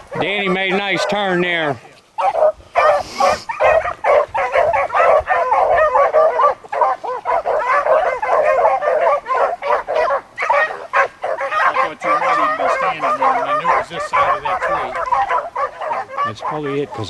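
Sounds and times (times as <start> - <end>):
beagles baying in chorus: 0.0 - 17.0.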